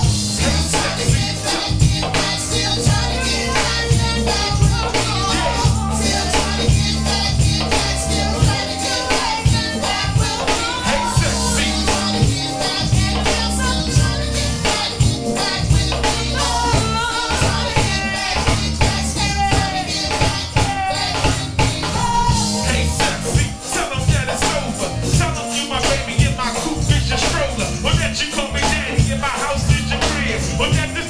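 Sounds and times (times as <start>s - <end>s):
music with beat and singing: 0.0s - 31.0s.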